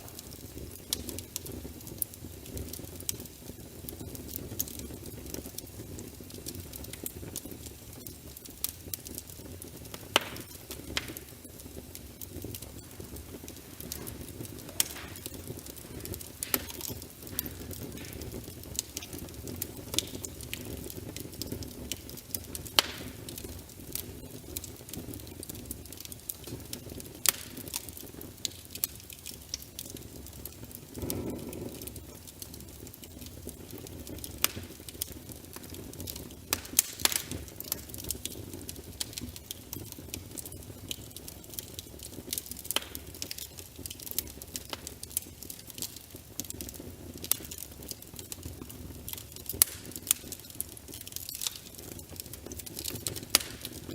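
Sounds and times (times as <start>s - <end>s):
rush of flame: 0.0s - 25.5s, 26.2s - 44.0s
wood fire crackling and popping: 0.0s - 53.9s.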